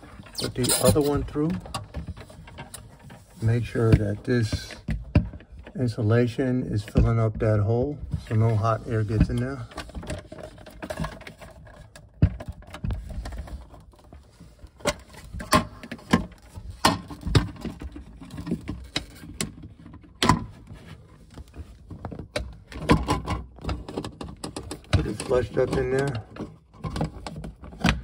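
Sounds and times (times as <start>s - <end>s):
plastic parts clicking and knocking: 0.0s - 5.8s, 9.1s - 28.0s.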